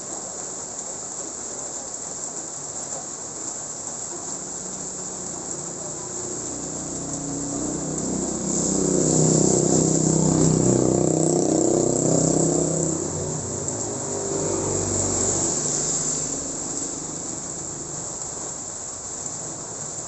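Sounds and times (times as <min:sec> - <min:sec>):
rain hissing on wet street: 0:00.0 - 0:20.0.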